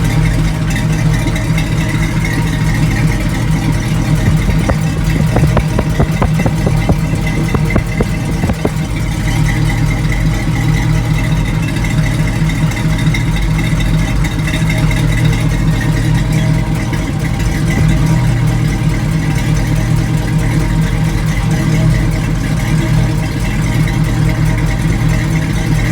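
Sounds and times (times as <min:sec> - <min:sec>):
pickup engine idling: 0:00.0 - 0:25.9.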